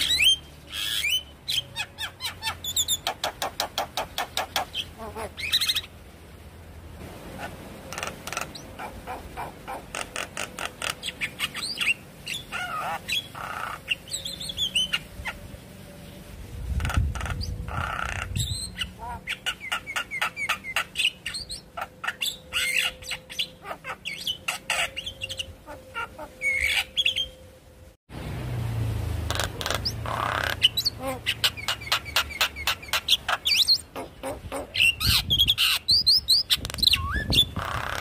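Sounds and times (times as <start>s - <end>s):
bird squawks: 0.0s - 5.9s, 7.4s - 15.5s, 16.8s - 27.4s, 29.3s - 38.0s
myna bird calling: 0.0s - 6.0s, 7.3s - 15.5s, 16.1s - 27.4s, 29.2s - 38.0s.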